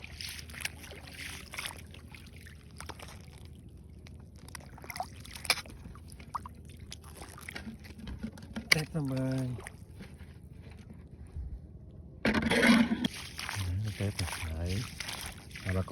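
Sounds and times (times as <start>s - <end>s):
water sloshing and trickling: 0.0s - 15.9s.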